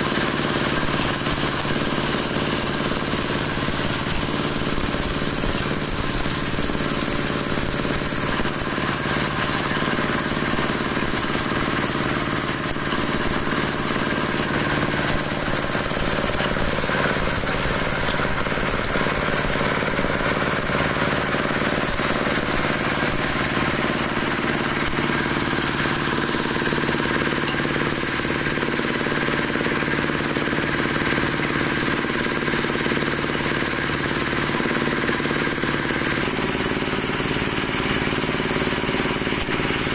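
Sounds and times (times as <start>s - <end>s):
machine humming with hiss: 0.0s - 39.9s.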